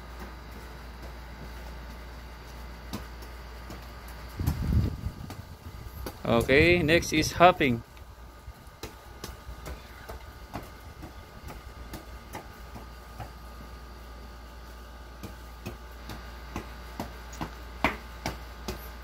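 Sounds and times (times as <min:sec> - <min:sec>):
child hopping footfalls on concrete: 0:00.0 - 0:07.5, 0:08.1 - 0:19.0
steady low hum: 0:00.0 - 0:19.0.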